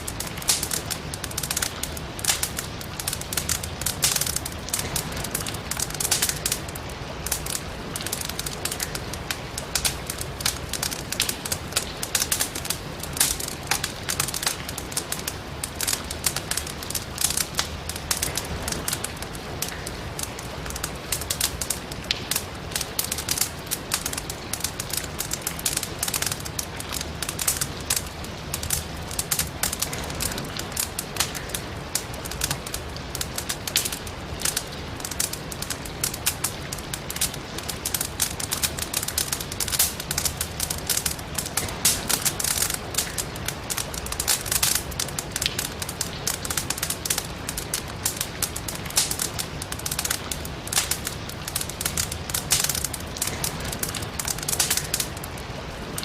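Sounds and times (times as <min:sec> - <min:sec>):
logs crackling in a fireplace: 0:00.0 - 0:56.0
rain hiss: 0:00.0 - 0:56.0.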